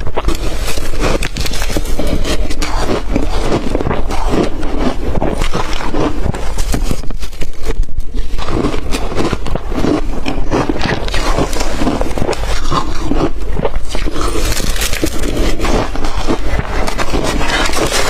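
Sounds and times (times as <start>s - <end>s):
chewing crushed ice: 0.0s - 18.0s.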